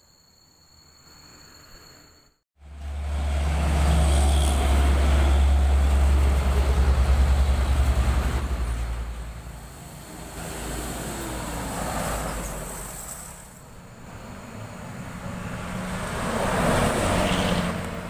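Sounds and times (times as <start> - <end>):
heavy vehicle passing: 2.6 - 18.0
vehicle approaching: 2.6 - 18.0.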